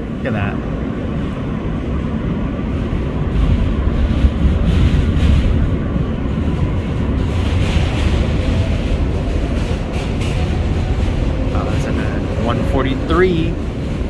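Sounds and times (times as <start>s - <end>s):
subway car rumbling on track: 0.0s - 14.0s.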